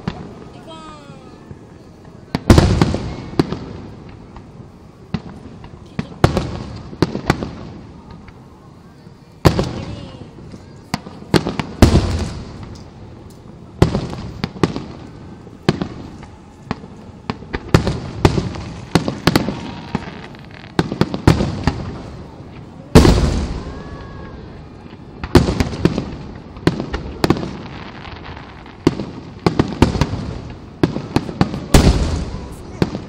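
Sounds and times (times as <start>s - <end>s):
fireworks booming: 0.0s - 33.0s.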